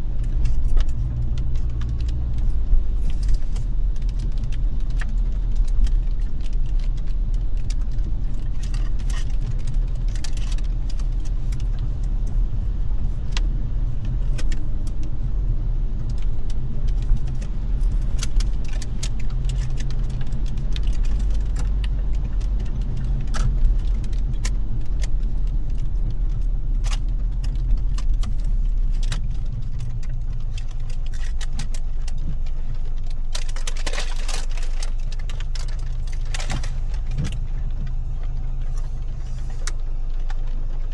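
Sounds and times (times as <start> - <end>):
raindrops tapping on windshield: 0.0 - 40.9
road and engine rumble: 0.0 - 40.9.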